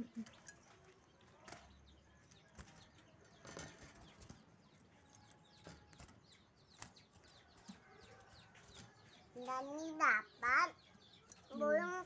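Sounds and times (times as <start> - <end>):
birds fluttering against wire: 0.0 - 12.0
faint high bird chirping: 0.0 - 12.0.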